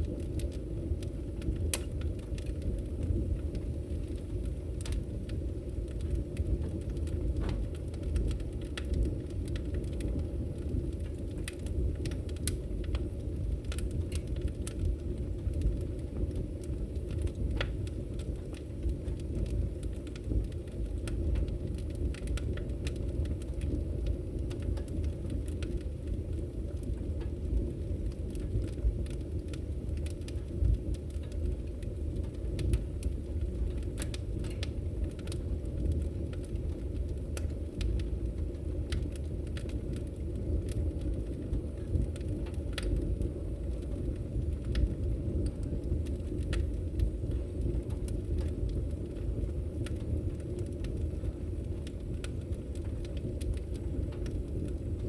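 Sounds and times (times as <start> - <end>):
campfire flame rumble: 0.0 - 55.0
wood crackling and popping: 0.0 - 55.0.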